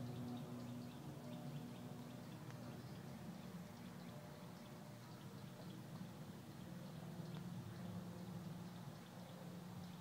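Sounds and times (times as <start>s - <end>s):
jet aircraft drone overhead: 0.0s - 10.0s.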